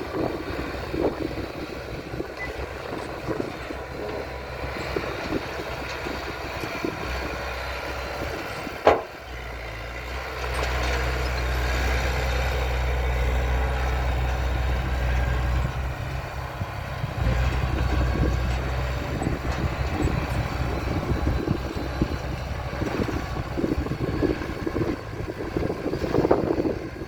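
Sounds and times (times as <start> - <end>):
heavy diesel engine droning: 0.0 - 27.0.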